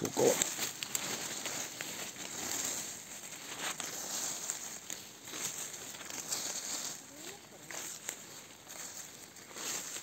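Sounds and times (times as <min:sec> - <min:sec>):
twigs rustling and crackling: 0:00.0 - 0:10.0.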